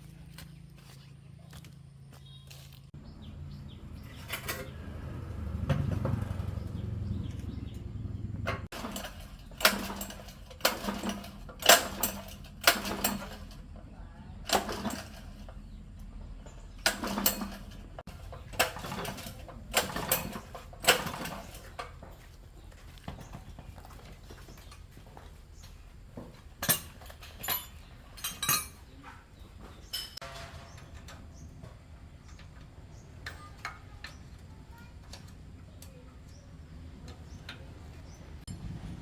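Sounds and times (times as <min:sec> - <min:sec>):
low rumbling handling noise: 0:02.7 - 0:39.0.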